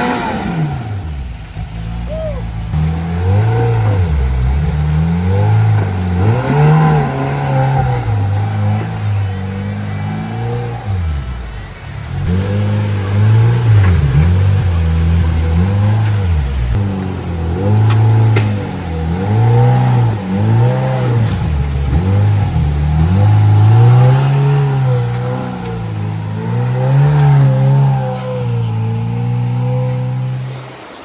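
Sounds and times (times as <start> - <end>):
utility vehicle engine revving: 0.0 - 31.0.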